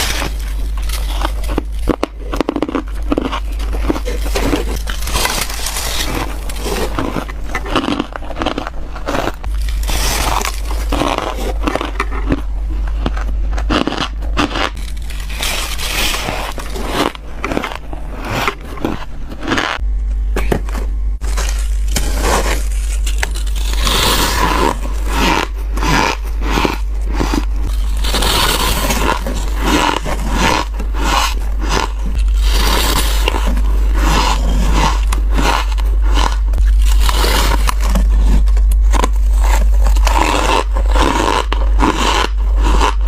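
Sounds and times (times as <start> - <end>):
ice being chewed: 0.0 - 19.8, 21.2 - 43.0.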